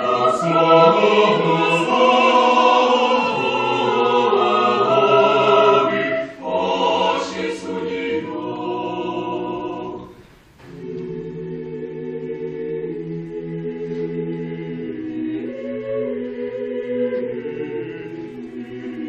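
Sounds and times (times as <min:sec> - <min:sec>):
mixed choir singing a cappella: 0:00.0 - 0:19.0.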